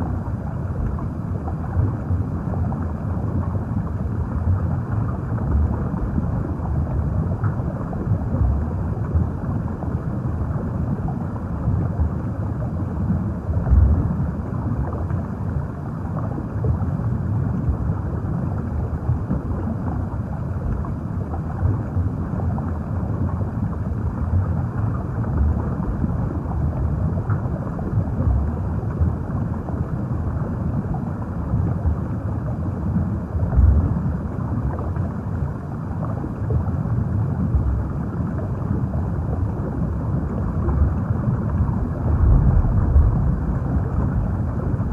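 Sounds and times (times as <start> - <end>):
muffled underwater rumble: 0.0 - 44.9.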